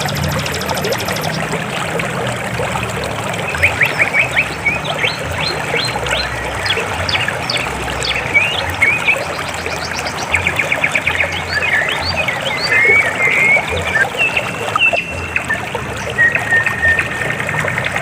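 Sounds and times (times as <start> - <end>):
birds chirping: 0.0 - 2.0, 3.3 - 18.0
river water flowing: 0.0 - 18.0.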